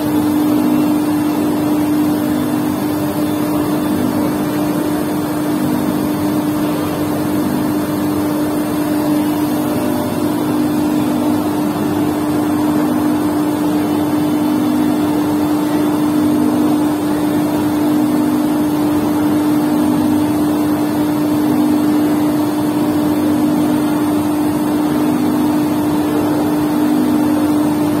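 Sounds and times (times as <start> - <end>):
inkjet printer pump humming: 0.0 - 28.0.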